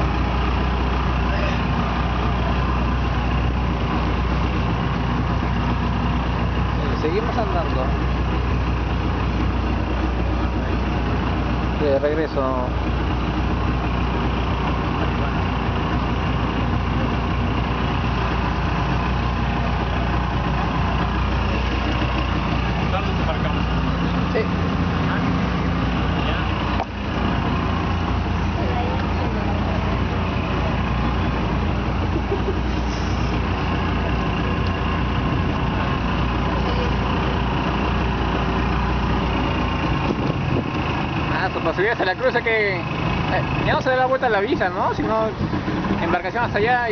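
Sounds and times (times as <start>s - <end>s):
boat rushing through water: 0.0s - 46.9s
motorboat engine running: 0.0s - 46.9s.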